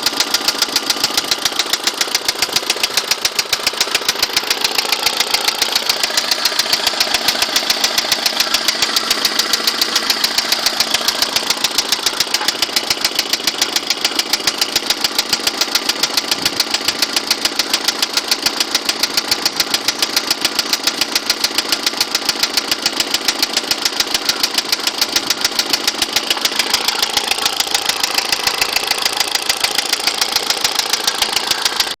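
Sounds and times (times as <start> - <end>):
engine idling with repeating knock: 0.0 - 32.0.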